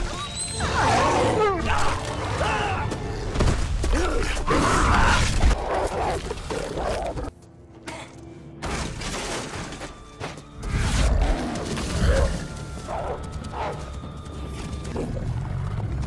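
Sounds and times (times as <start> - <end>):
film soundtrack music: 0.0 - 16.0.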